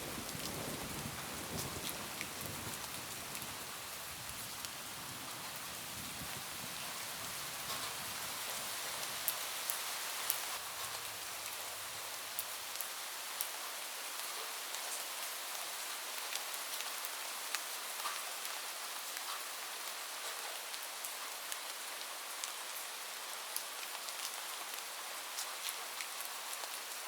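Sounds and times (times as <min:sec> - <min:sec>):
rain on a roof: 0:00.0 - 0:27.0.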